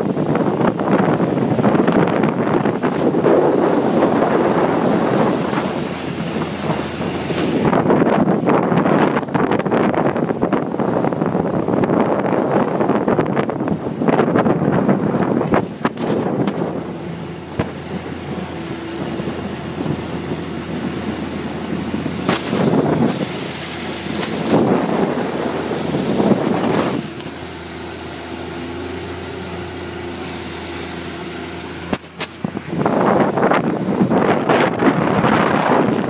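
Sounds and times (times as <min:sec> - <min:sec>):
motorboat engine drone: 0:00.0 - 0:36.0
wind buffeting microphone: 0:00.0 - 0:36.0.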